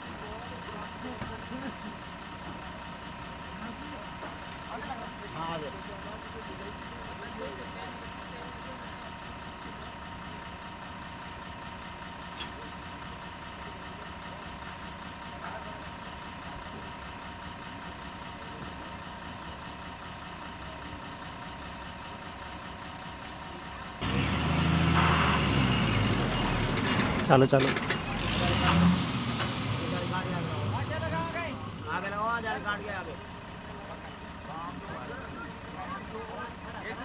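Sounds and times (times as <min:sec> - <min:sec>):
truck diesel engine idling: 0:00.0 - 0:37.0.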